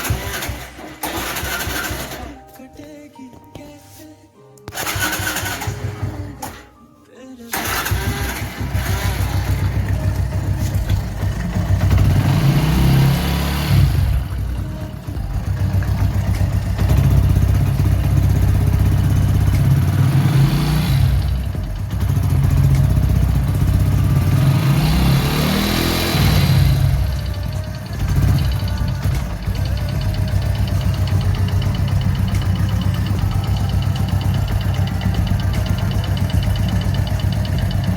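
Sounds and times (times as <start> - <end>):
motorcycle engine idling and revving: 0.0 - 2.4, 4.7 - 6.7, 7.5 - 37.9.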